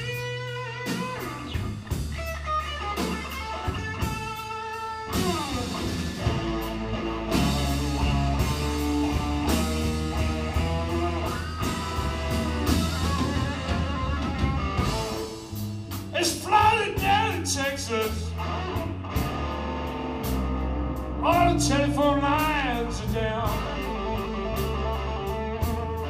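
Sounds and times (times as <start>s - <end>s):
bending lead guitar notes: 0.0s - 26.0s
slow blues band playing: 0.0s - 26.0s.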